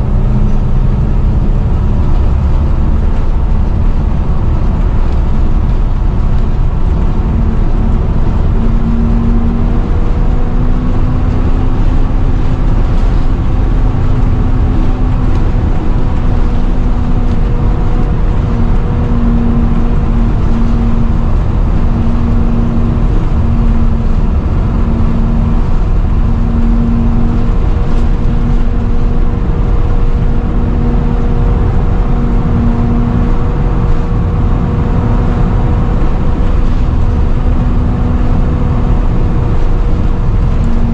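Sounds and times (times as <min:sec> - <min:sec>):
bus engine rumble: 0:00.0 - 0:40.9
bus engine whine: 0:00.0 - 0:40.9.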